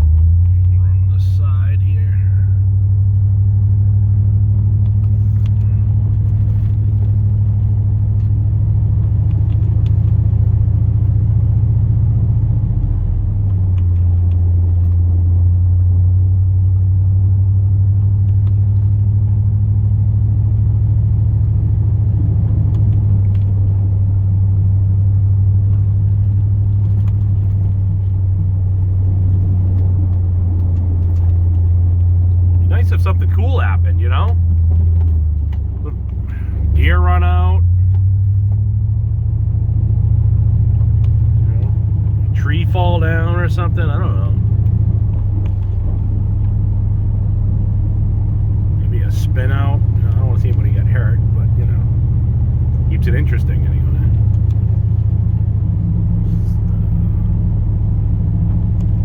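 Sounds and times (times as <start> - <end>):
truck engine drone inside cab: 0.0 - 59.0.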